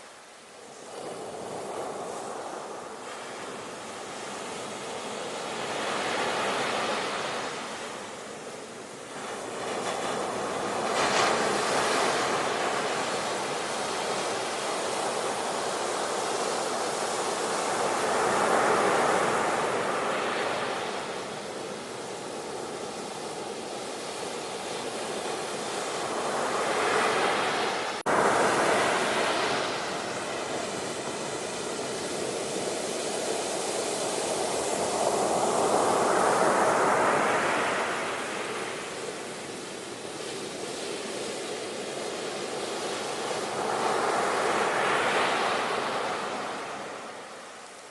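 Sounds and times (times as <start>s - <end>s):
ocean waves breaking: 0.0s - 47.8s.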